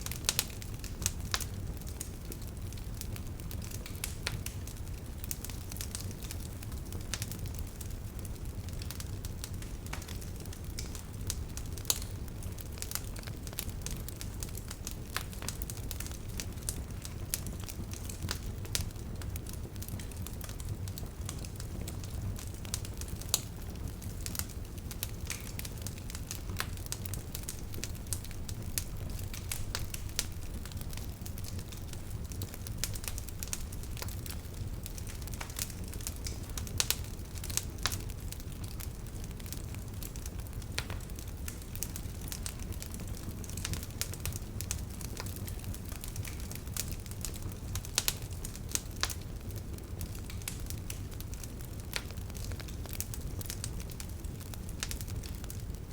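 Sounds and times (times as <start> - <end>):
bonfire crackling and popping: 0.0 - 55.9
low rumble of fire: 0.0 - 55.9.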